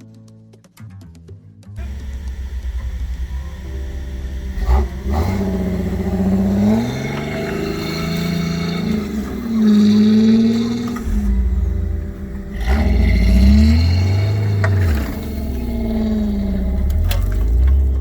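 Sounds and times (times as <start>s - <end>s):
off-road vehicle engine revving: 1.8s - 18.0s.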